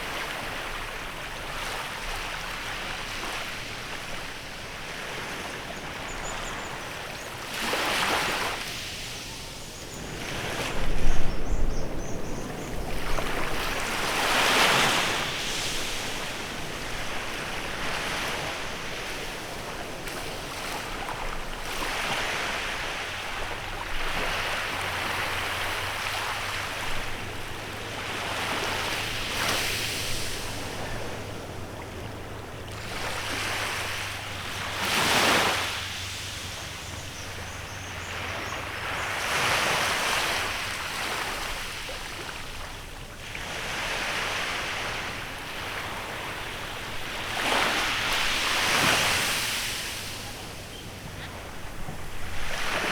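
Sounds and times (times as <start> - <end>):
small waves breaking on beach: 0.0 - 52.9.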